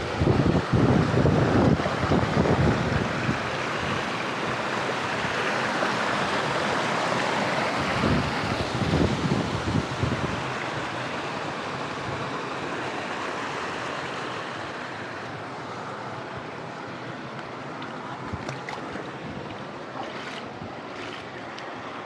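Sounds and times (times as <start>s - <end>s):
fast stream rushing: 0.0s - 22.0s.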